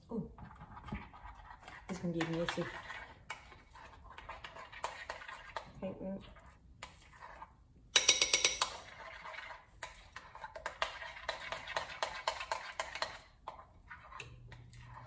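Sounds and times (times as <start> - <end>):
utensil beating batter in bowl: 0.2 - 15.0.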